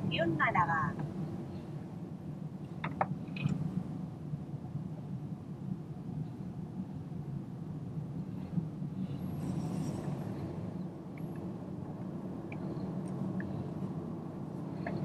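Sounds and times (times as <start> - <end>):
car cabin driving hum: 0.0 - 15.0.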